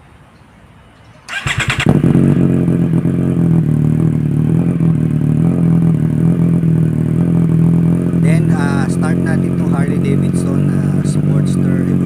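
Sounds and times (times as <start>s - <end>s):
motorcycle engine starting and idling: 1.0s - 12.0s.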